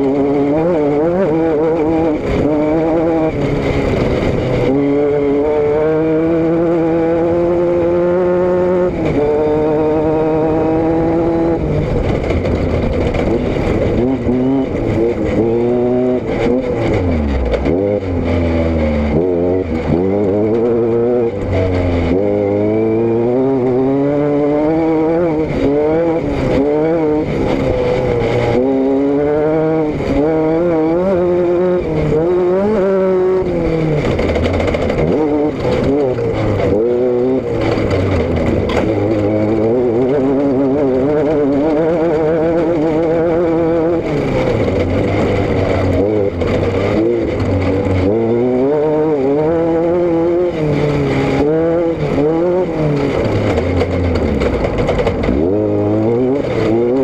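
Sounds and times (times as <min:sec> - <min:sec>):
vehicle engine and exhaust revving: 0:00.0 - 0:57.0.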